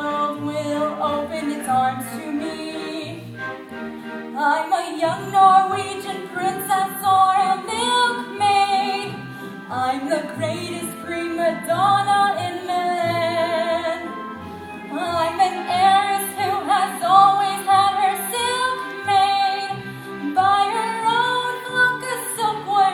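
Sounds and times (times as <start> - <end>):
woman singing with vibrato: 0.0 - 3.2, 4.4 - 14.2, 14.8 - 22.9
instrumental accompaniment: 0.0 - 22.9.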